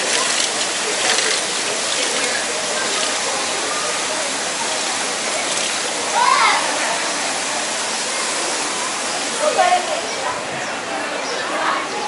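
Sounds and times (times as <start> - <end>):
running water rushing: 0.0 - 11.9
faint voices: 0.0 - 12.0.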